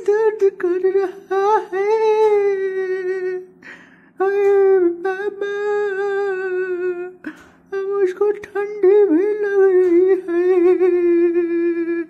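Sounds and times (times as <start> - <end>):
person humming held notes: 0.0 - 12.0.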